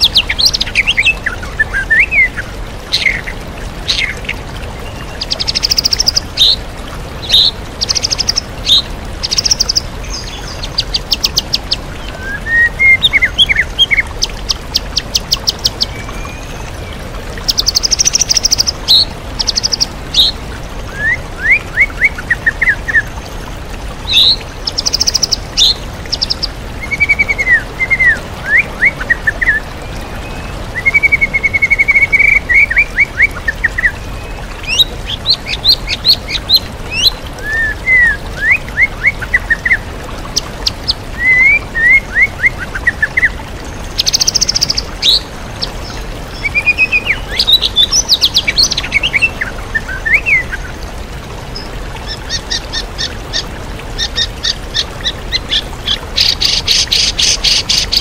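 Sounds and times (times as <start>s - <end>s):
songbird singing: 0.0s - 6.6s, 7.2s - 23.4s, 24.0s - 50.8s, 51.5s - 58.0s
waterfall rushing: 0.0s - 58.0s.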